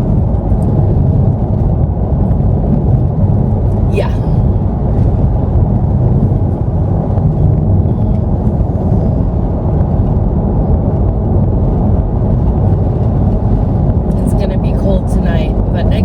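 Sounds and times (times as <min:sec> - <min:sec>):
motor vehicle rumbling: 0:00.0 - 0:16.0.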